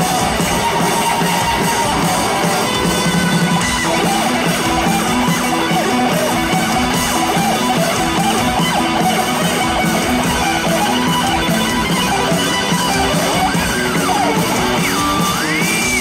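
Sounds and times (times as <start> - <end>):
electric guitar riff: 0.0 - 16.0
live rock band playing: 0.0 - 16.0.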